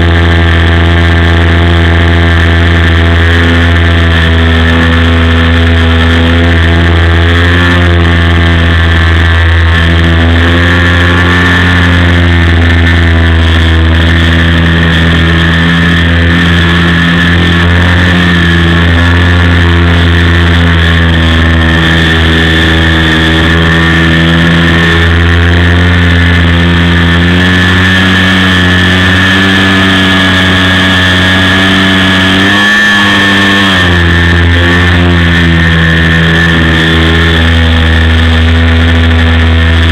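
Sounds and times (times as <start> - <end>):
model aeroplane engine running: 0.0 - 39.9.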